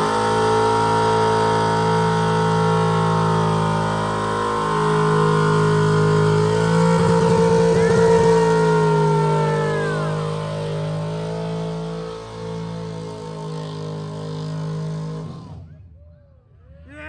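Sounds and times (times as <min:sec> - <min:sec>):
car engine at high revs: 0:00.0 - 0:15.8.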